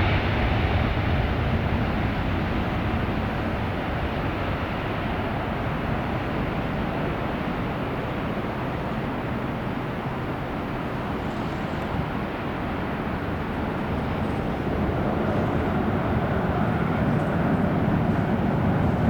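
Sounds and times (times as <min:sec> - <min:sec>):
jet engines at take-off power: 0:00.0 - 0:19.0.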